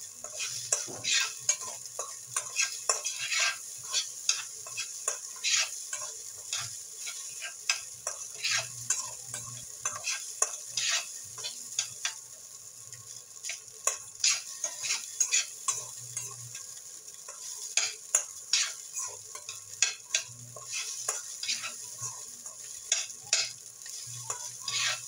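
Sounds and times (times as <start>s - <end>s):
light sizzle: 0.0s - 25.0s
spatula scraping rice in pan: 0.2s - 12.2s, 13.4s - 25.0s.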